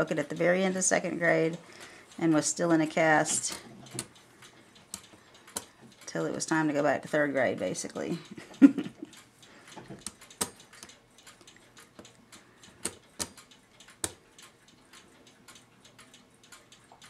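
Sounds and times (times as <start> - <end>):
brass clock parts clicking: 0.1 - 8.5, 9.1 - 17.0.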